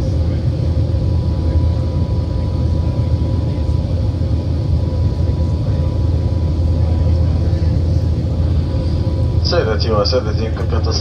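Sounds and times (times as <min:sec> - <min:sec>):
aircraft cabin engine rumble: 0:00.0 - 0:11.0
faint constant whine: 0:00.0 - 0:11.0.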